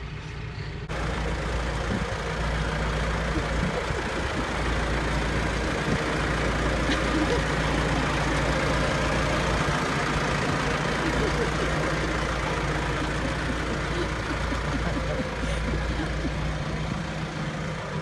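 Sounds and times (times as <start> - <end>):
tractor engine running: 0.9 - 18.0.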